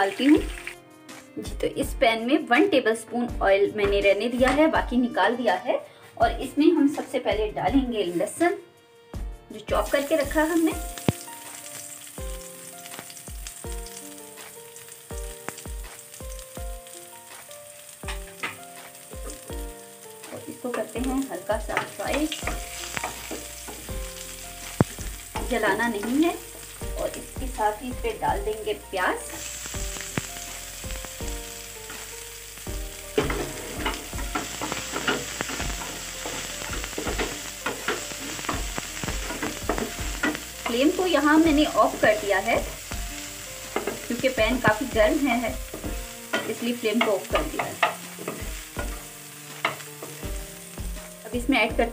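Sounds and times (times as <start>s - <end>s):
garlic sizzling in frying pan: 0.0s - 5.6s, 6.2s - 51.9s.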